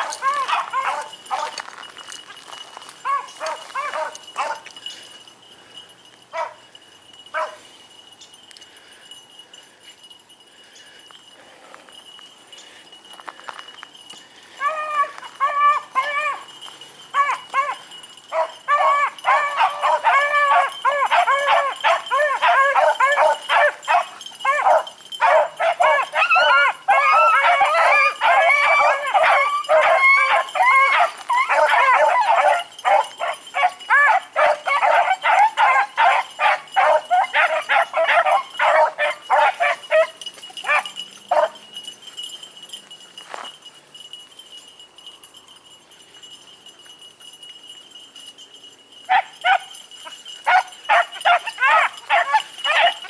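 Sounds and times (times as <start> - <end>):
dogs baying: 0.0 - 7.7, 10.6 - 43.5, 49.1 - 53.0.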